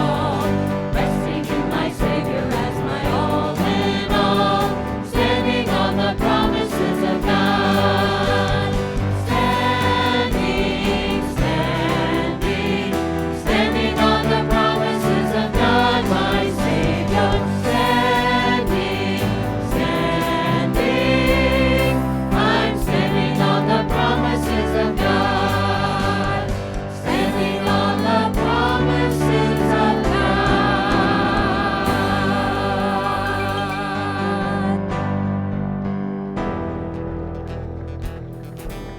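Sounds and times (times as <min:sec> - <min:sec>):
choir singing with instruments: 0:00.0 - 0:35.6.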